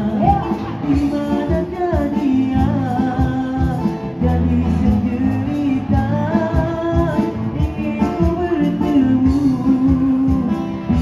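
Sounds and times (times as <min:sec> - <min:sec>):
guitar: 0:00.0 - 0:11.0
keyboard: 0:00.0 - 0:11.0
person singing into microphone: 0:00.0 - 0:11.0.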